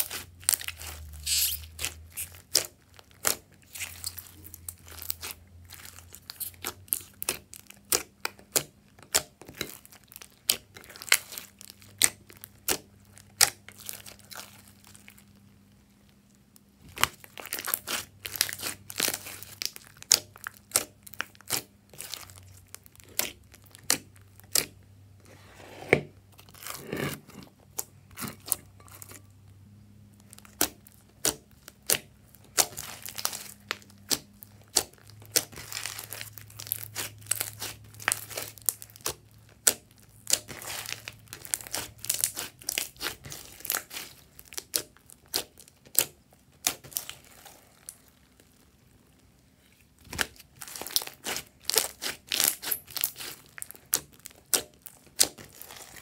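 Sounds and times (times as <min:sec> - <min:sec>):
slime crackling and popping: 0:00.0 - 0:24.8, 0:30.2 - 0:56.0.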